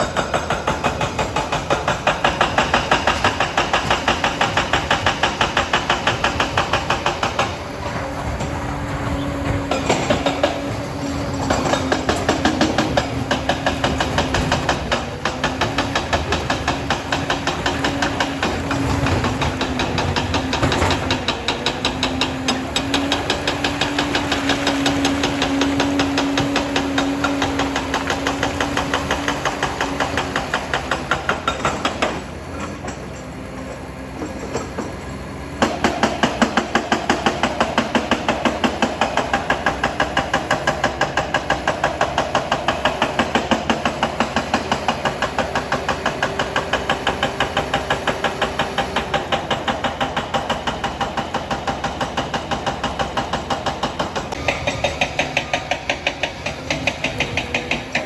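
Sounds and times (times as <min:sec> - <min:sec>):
diesel engine running: 0:00.0 - 0:58.0
steel tracks clanking: 0:00.0 - 0:58.0.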